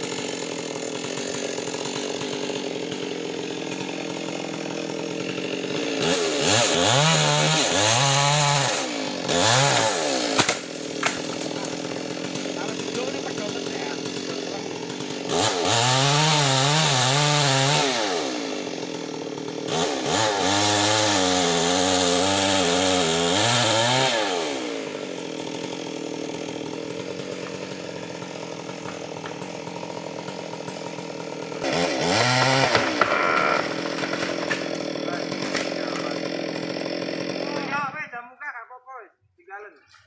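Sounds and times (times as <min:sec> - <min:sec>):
chainsaw cutting wood: 0:00.0 - 0:38.1
chainsaw idling: 0:00.0 - 0:38.2.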